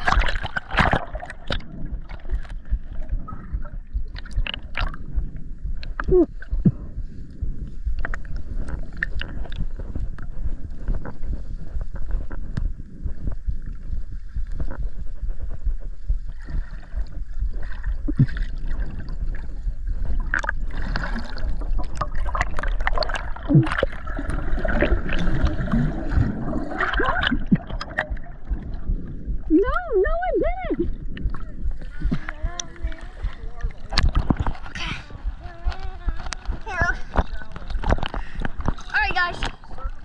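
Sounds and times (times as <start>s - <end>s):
bubbles gurgling: 0.0s - 40.0s
low underwater rumble: 0.0s - 40.0s
water sloshing: 0.0s - 40.0s.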